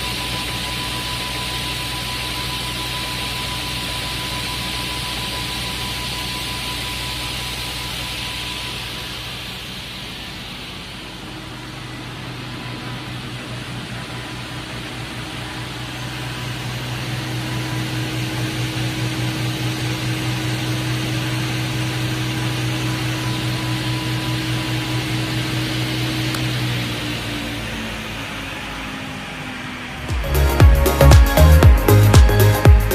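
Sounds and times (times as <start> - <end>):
multi-rip saw running: 0.0 - 32.9.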